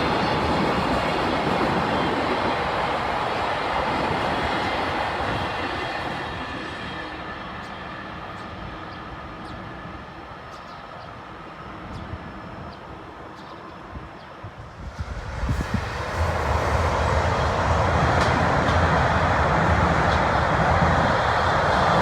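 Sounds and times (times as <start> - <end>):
train rumbling across bridge: 0.0 - 22.0.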